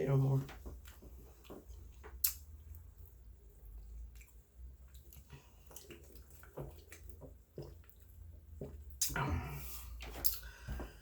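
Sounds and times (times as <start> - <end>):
small wet sounds: 0.3 - 11.0.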